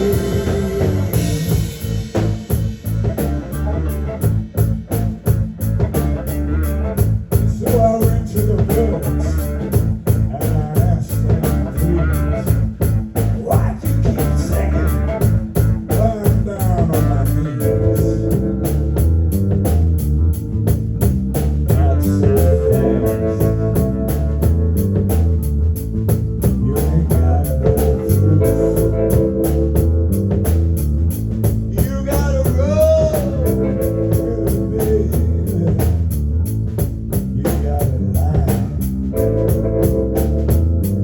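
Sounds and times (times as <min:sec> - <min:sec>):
drum kit steady beat: 0:00.0 - 0:41.0
electric guitar: 0:00.0 - 0:41.0.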